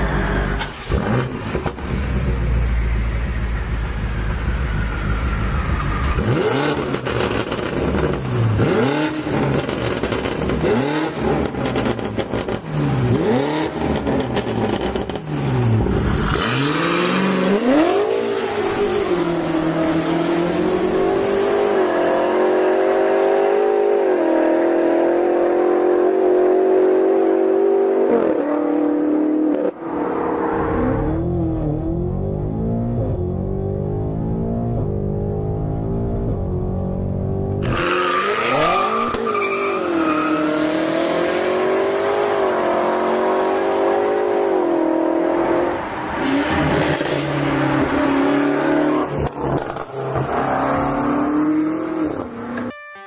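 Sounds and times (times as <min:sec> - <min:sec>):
car engine revving: 0:00.0 - 0:52.7.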